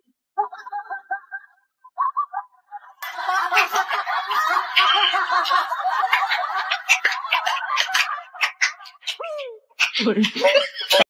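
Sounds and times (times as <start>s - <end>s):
person snickering and chuckling: 2.0s - 11.0s.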